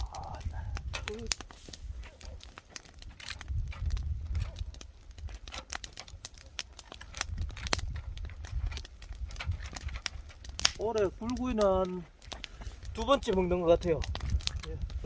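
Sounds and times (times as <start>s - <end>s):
wind rumbling on microphone: 0.0s - 15.0s
wood fire crackling: 0.0s - 15.0s.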